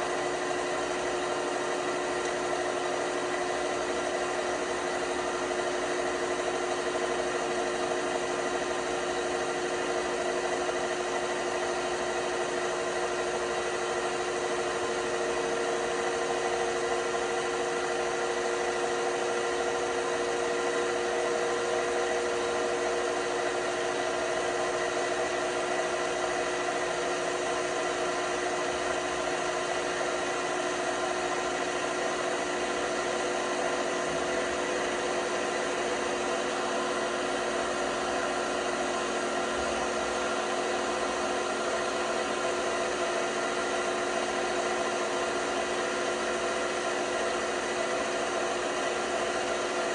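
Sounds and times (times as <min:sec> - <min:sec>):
washing machine motor humming: 0:00.0 - 0:49.9.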